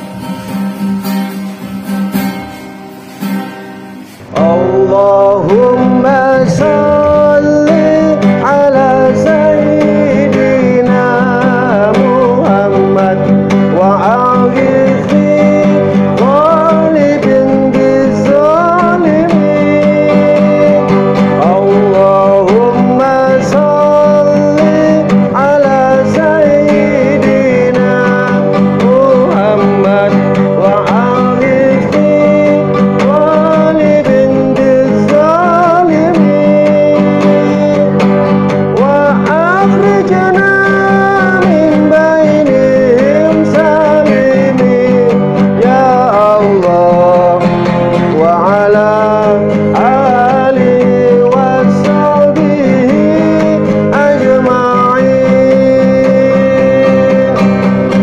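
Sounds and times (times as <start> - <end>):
acoustic guitar chords: 0.0 - 58.0
man singing devotional song: 4.0 - 58.0.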